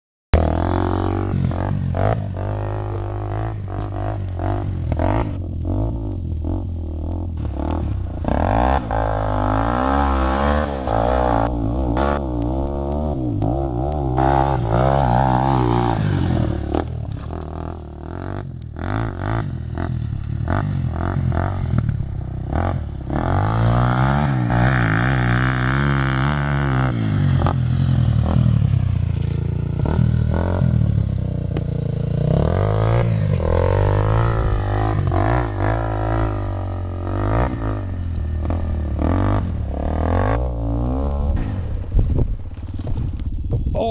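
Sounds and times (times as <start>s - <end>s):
dirt bike engine revving: 0.4s - 42.1s.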